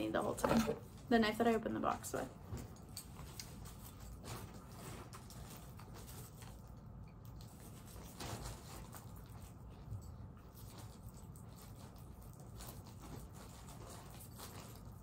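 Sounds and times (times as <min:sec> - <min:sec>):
clothing and packaging rustling: 0:00.0 - 0:06.7, 0:07.5 - 0:15.0.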